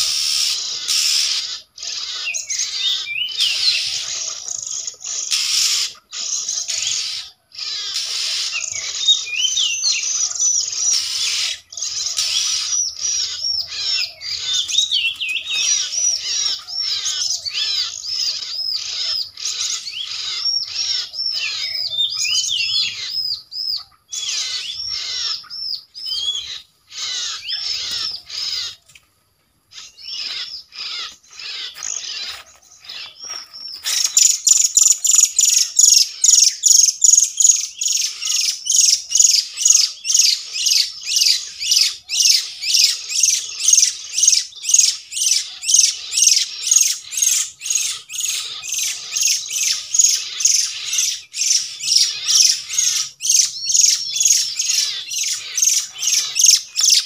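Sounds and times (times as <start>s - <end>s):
bird high repeated chirps: 0.0s - 29.0s, 29.7s - 57.0s.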